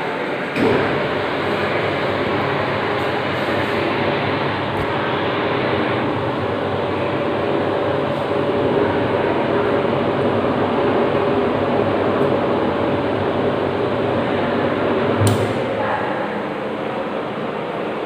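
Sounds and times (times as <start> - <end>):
dough mixer motor humming: 0.0 - 15.8.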